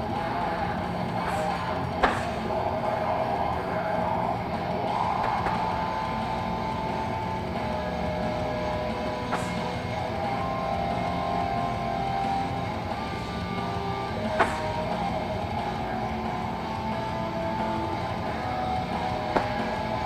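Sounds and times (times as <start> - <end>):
background music: 0.0 - 20.0
steady low hum: 0.0 - 20.0.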